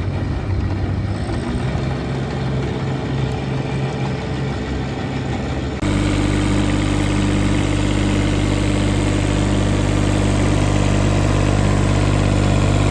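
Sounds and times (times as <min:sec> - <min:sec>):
diesel excavator engine running: 0:00.0 - 0:12.9.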